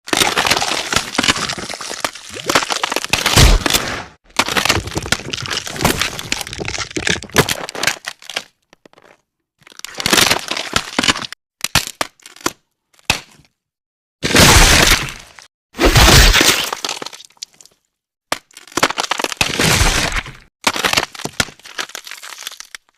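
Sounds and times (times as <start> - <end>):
bones cracking and crunching: 0.1 - 13.6, 14.2 - 22.9.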